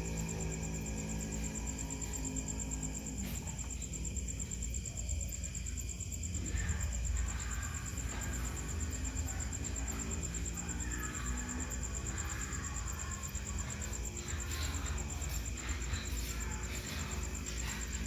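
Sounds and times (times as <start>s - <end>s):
cricket trilling: 0.0s - 18.0s.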